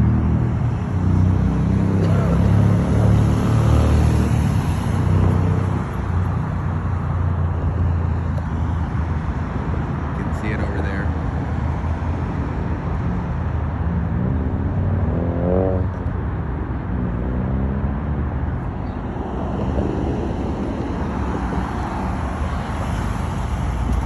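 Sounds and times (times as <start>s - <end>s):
cars passing: 0.0s - 24.0s.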